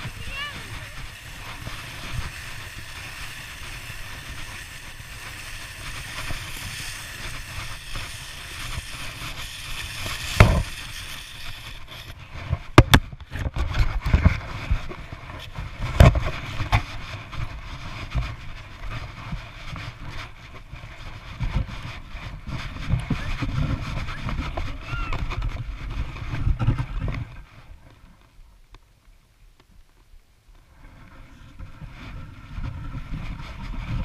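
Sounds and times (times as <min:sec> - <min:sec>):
rumbling over packed snow: 0:00.0 - 0:27.4.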